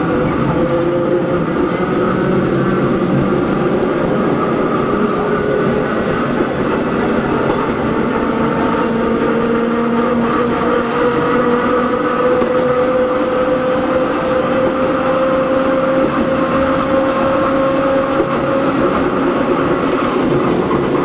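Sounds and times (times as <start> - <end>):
train rolling noise: 0.0 - 21.0.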